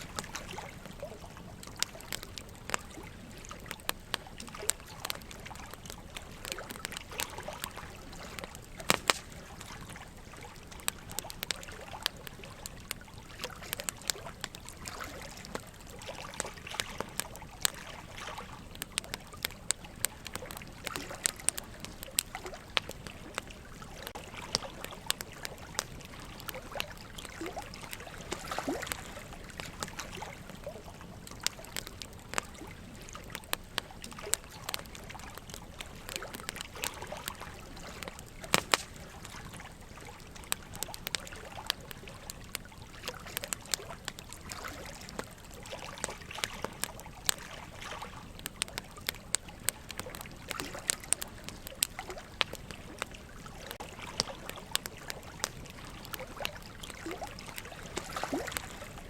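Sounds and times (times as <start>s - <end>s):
running water trickling: 0.0s - 59.0s
wood fire crackling: 0.0s - 59.0s.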